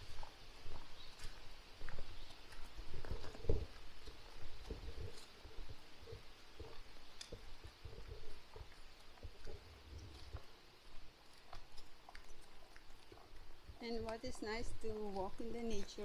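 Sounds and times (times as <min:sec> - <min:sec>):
footsteps on woodland footpath: 0:00.0 - 0:16.0.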